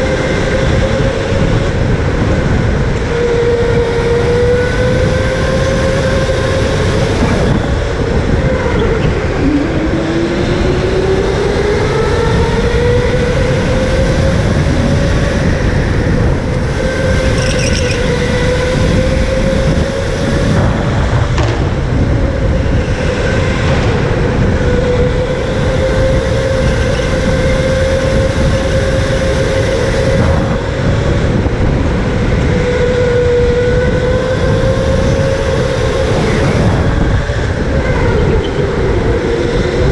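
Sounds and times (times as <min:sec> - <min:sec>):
electric go-kart motor whining: 0:00.0 - 0:39.9
kart rumbling on concrete: 0:00.0 - 0:39.9.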